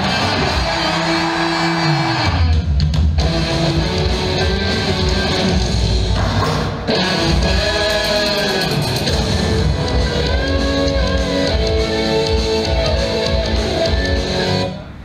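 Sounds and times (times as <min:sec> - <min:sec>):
upbeat guitar song over loudspeakers: 0:00.0 - 0:14.8.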